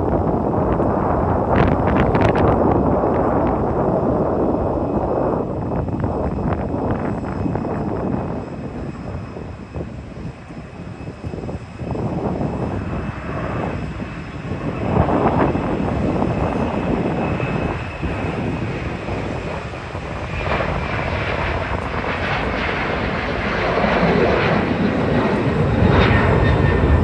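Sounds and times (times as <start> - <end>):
jet engines rumbling with high whine: 0.0 - 27.0.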